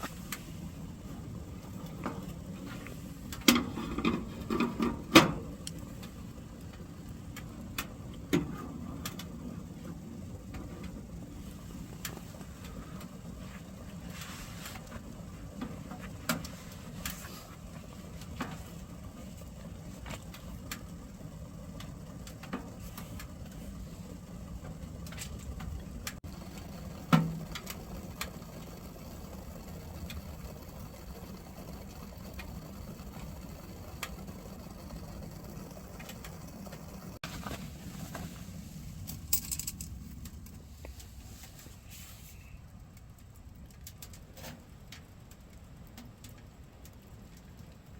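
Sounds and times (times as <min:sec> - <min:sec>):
wood fire crackling and popping: 0:00.0 - 0:41.8, 0:42.6 - 0:47.9
fire low rumble: 0:00.0 - 0:47.9.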